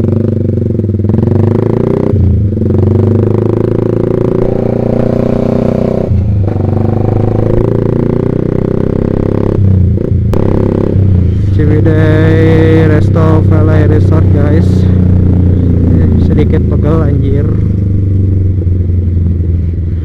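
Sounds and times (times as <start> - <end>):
motorcycle engine while riding: 0.0 - 20.0.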